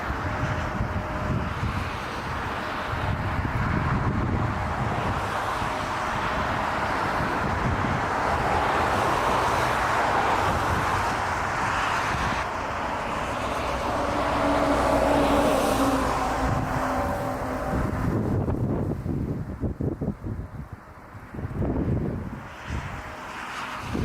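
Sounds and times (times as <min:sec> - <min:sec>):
jet engines roaring: 0:00.0 - 0:19.4, 0:20.9 - 0:24.0
steady engine tones: 0:00.0 - 0:19.8.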